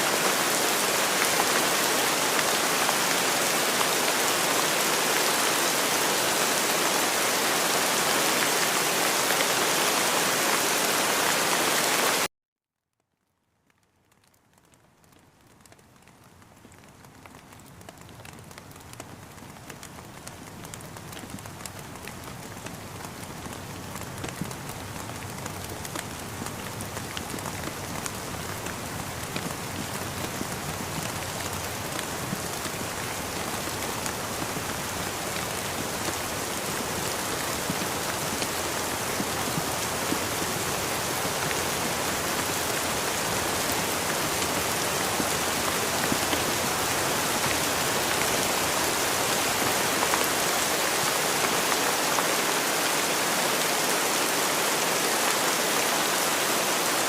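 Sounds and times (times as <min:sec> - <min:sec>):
steady rain falling: 0:00.0 - 0:12.3, 0:13.1 - 0:57.0.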